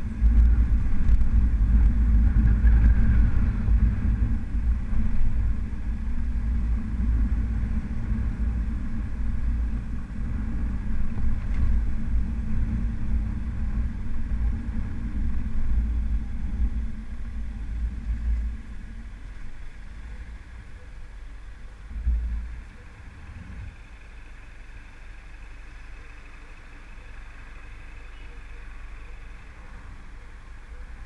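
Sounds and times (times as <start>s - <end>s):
motorcycle engine running: 0.0s - 31.0s
wind and road noise: 0.0s - 31.0s.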